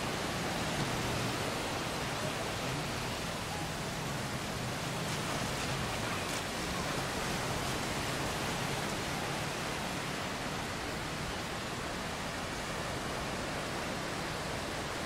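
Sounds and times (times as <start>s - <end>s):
ocean surf on sandy beach: 0.0s - 15.0s.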